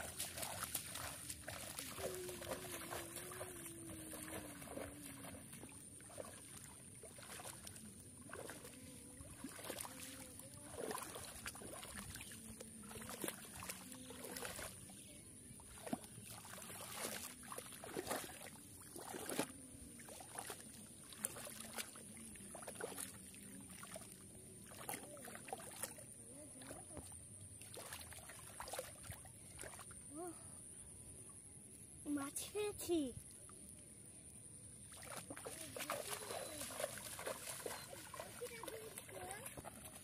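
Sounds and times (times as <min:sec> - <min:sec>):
muddy water splashing: 0:00.0 - 0:31.4, 0:32.0 - 0:40.0.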